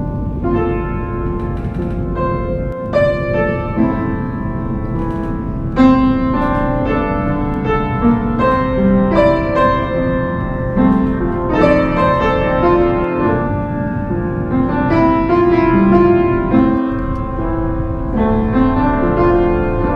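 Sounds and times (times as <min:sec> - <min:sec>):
piano background music: 0:00.0 - 0:19.9.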